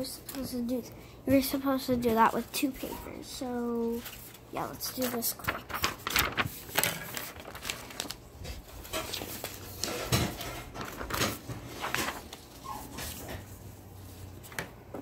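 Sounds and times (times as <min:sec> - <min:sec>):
paper rustling: 0:02.0 - 0:15.0.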